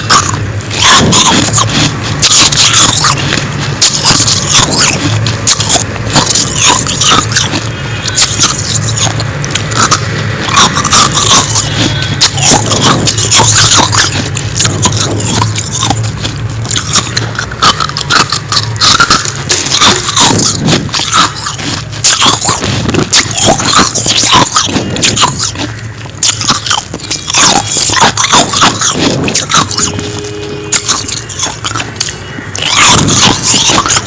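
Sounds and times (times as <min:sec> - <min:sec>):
chewing crunchy frost: 0:00.0 - 0:34.0.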